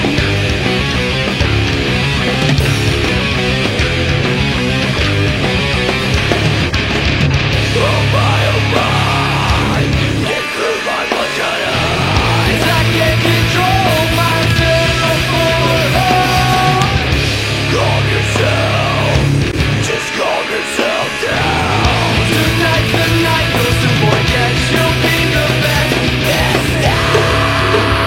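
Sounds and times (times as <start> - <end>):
steady bass line: 0.0 - 10.3, 11.7 - 20.0, 21.3 - 28.0
electric guitar: 0.0 - 28.0
heavy rock music: 0.0 - 28.0.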